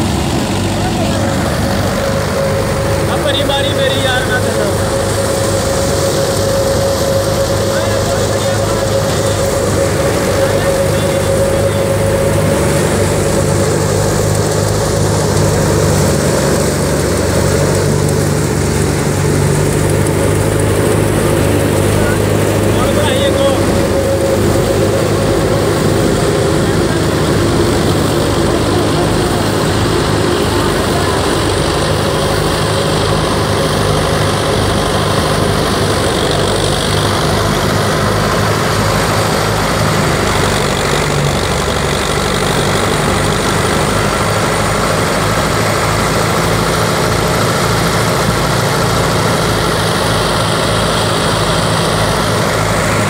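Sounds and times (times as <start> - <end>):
thresher running: 0.0 - 53.0
tractor diesel engine running: 0.0 - 53.0.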